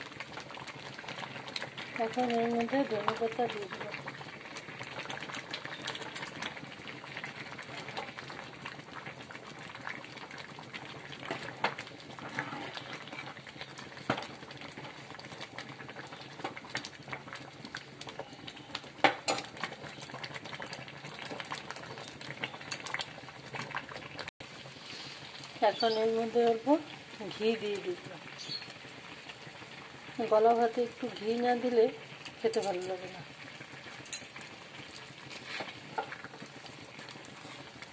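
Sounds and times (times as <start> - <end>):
pot bubbling: 0.0 - 37.9.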